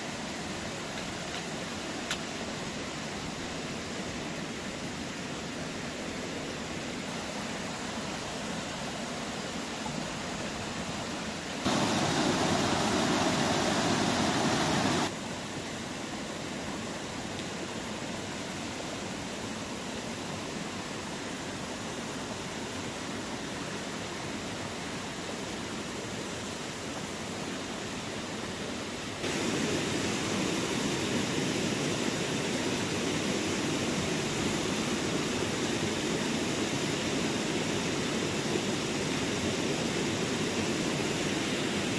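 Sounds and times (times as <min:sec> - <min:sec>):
shallow stream flowing over rocks: 0:00.0 - 0:41.9.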